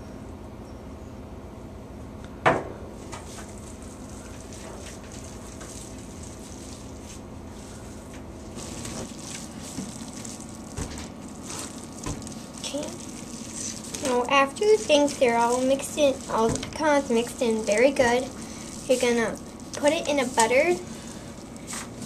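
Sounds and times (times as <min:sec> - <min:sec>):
steady low hum: 0:00.0 - 0:22.0
dough squishing and crackling: 0:03.0 - 0:22.0.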